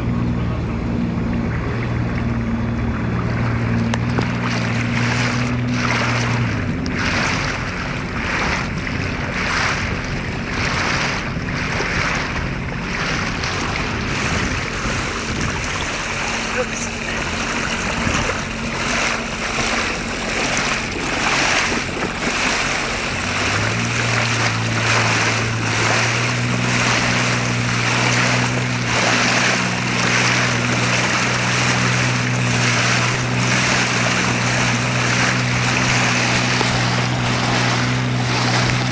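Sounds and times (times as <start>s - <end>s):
boat motor humming: 0.0s - 38.9s
water splashing along boat hull: 0.0s - 38.9s.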